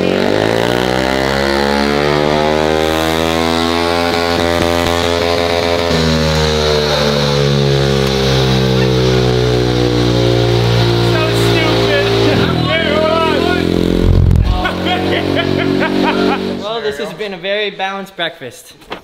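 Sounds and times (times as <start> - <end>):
small motorcycle engine running: 0.0 - 16.6.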